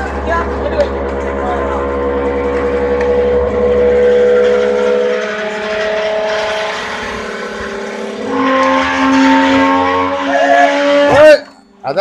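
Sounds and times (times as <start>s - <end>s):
baler motor humming and whining: 0.0s - 11.3s.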